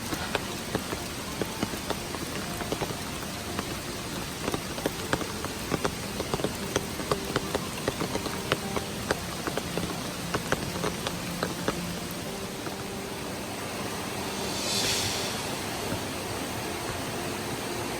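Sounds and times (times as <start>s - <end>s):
rain hiss: 0.0s - 17.9s
raindrops ticking on a surface: 0.0s - 17.9s.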